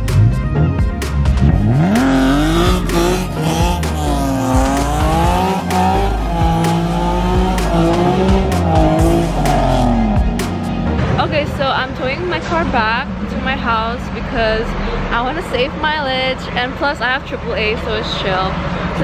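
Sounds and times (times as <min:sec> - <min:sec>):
background music: 0:00.0 - 0:19.0
car engine revving: 0:00.0 - 0:19.0.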